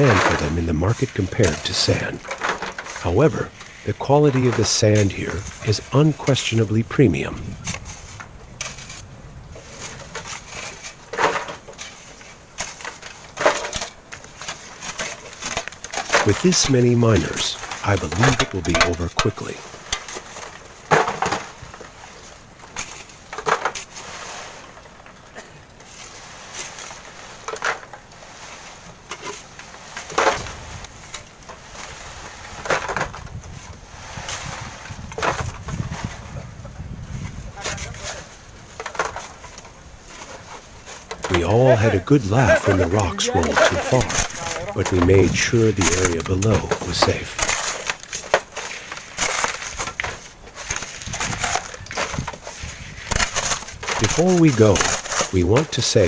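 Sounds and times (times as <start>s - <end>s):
shovels scraping sand and gravel: 0.0s - 56.0s.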